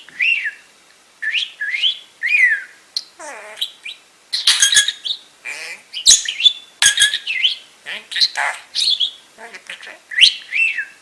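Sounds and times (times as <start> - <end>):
budgerigar chirping and chattering: 1.2 - 10.9.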